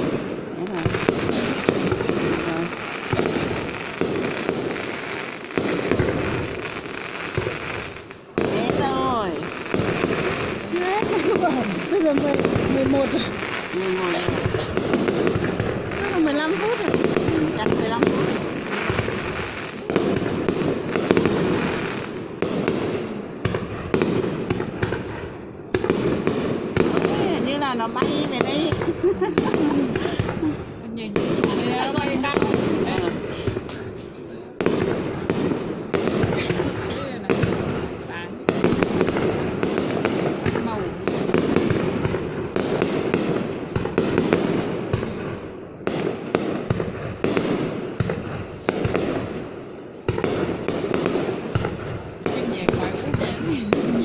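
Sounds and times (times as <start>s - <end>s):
fireworks booming: 0.0s - 54.0s
fireworks cracks and bangs: 0.0s - 54.0s.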